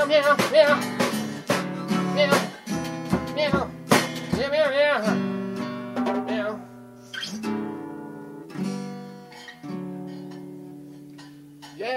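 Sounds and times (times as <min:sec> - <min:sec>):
acoustic guitar strumming chords: 0:00.0 - 0:11.9.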